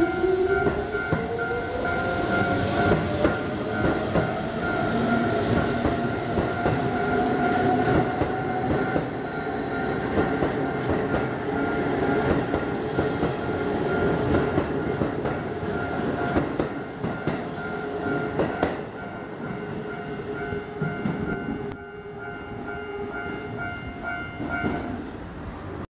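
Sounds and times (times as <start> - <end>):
electric train passing: 0.0 - 25.8.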